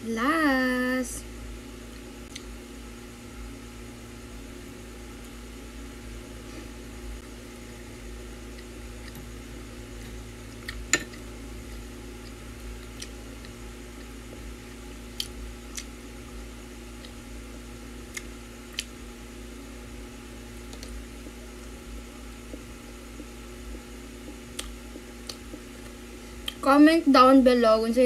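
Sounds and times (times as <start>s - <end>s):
electric fan humming: 0.0s - 28.0s.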